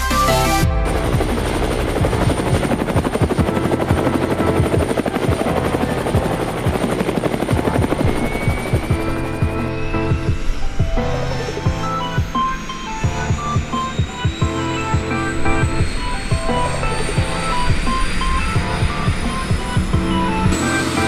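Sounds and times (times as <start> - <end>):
helicopter turbine whine: 0.1 - 21.0
helicopter rotor chopping: 0.4 - 21.0.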